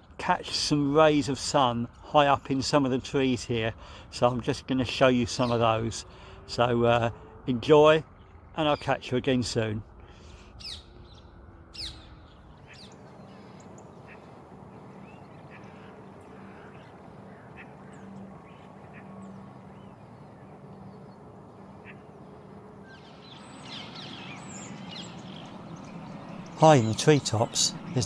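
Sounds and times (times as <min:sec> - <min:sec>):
steady low hum: 0:00.0 - 0:28.0
birds calling and chirping: 0:02.6 - 0:06.7, 0:08.1 - 0:28.0.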